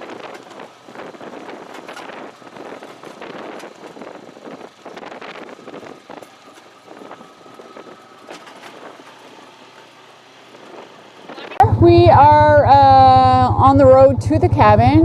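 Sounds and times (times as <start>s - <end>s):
vehicle tyre and ride noise: 0.0s - 15.0s.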